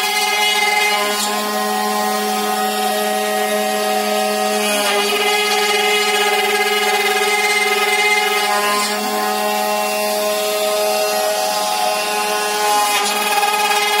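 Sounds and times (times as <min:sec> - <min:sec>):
cnc router motor whine: 0:00.0 - 0:14.0.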